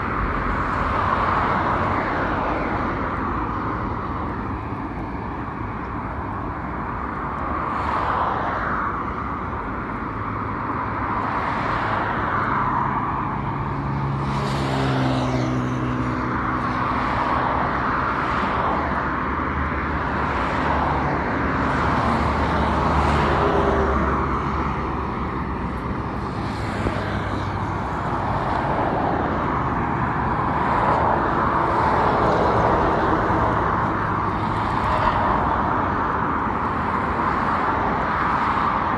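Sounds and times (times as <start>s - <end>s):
cars passing on highway: 0.0s - 38.9s.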